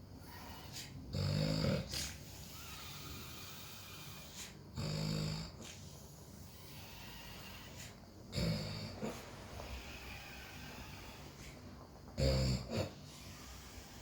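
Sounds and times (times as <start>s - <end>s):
loud snores: 0.2s - 11.5s, 12.2s - 14.0s.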